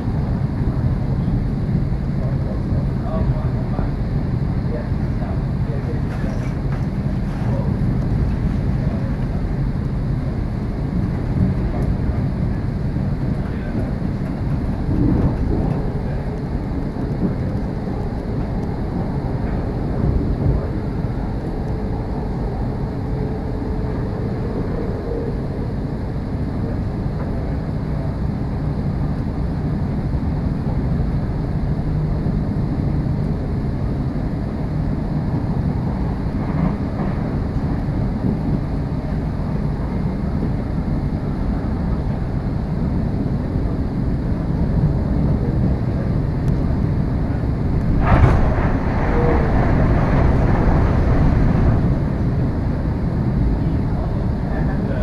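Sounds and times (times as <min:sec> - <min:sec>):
faint hum: 0:00.0 - 0:55.0
train wheels rumbling on rails: 0:00.0 - 0:55.0.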